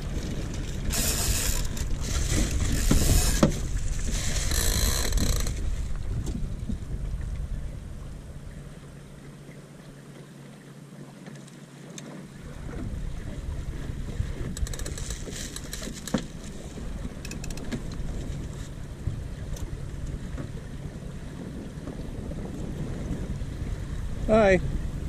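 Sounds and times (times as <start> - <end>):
wind buffeting microphone: 0.0 - 9.4, 12.3 - 25.0.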